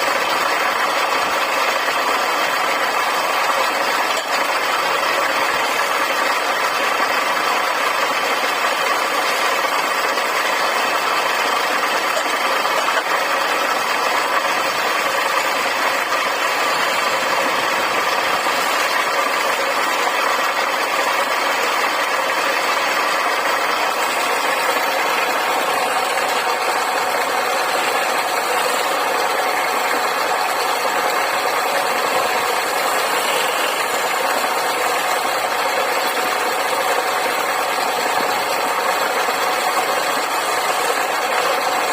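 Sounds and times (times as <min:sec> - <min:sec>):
wood lathe running: 0:00.0 - 0:41.9.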